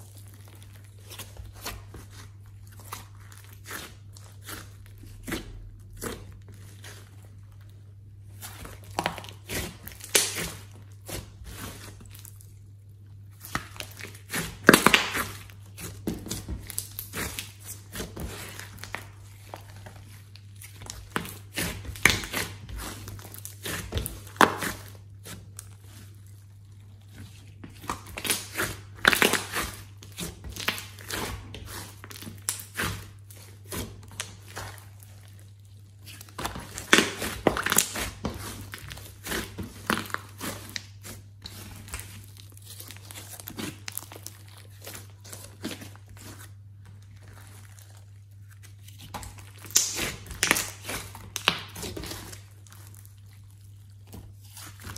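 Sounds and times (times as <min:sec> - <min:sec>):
clay slime squished by hand: 0:00.0 - 0:54.9.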